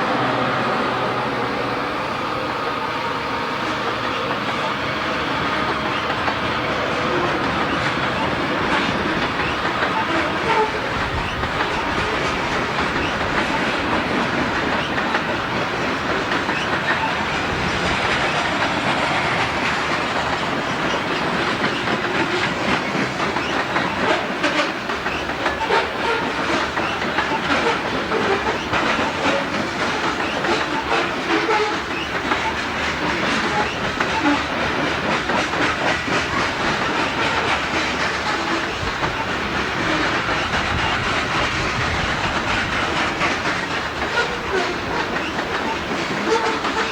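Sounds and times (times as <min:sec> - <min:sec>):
freight train cars rolling: 0:00.0 - 0:46.9
wheels clicking over rail joints: 0:03.6 - 0:46.9.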